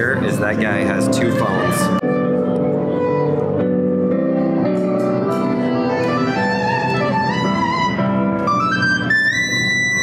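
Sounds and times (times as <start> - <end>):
digital piano playing chords: 0.0 - 10.0
violin-like wind instrument melody: 0.0 - 10.0.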